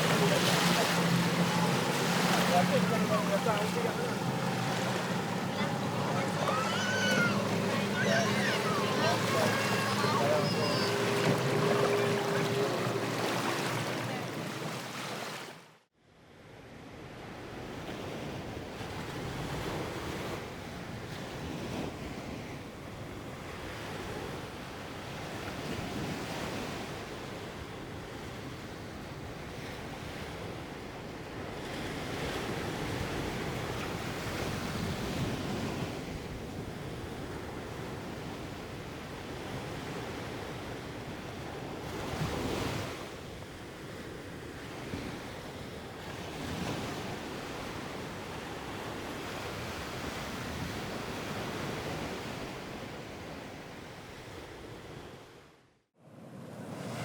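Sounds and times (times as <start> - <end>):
ocean waves washing: 0.0 - 15.8, 18.0 - 53.6, 56.0 - 57.0.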